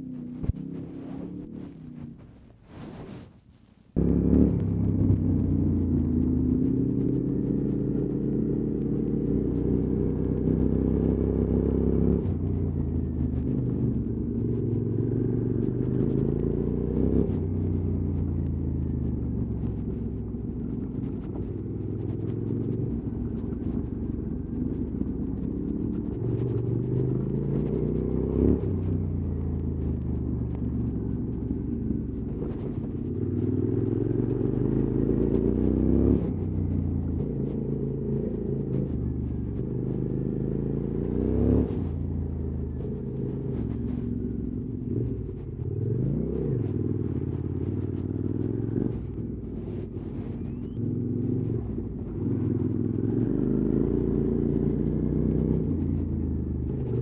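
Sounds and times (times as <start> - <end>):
motorcycle engine revving: 0.0 - 3.2, 4.0 - 57.0.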